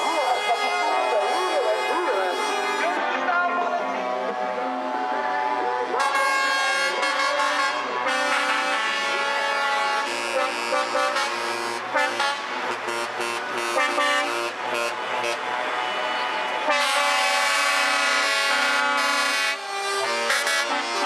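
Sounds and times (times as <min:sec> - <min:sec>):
truck air horns blowing: 0:00.0 - 0:03.1, 0:05.9 - 0:21.0
truck engines running: 0:00.0 - 0:21.0.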